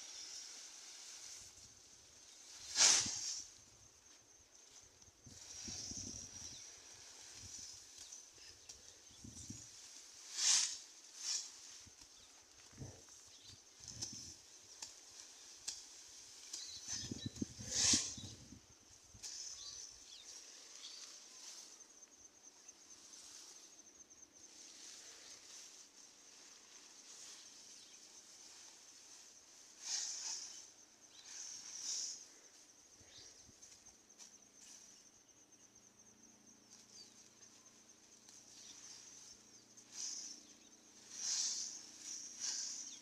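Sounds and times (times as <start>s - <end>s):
high-pitched insect trill: 0.0s - 43.0s.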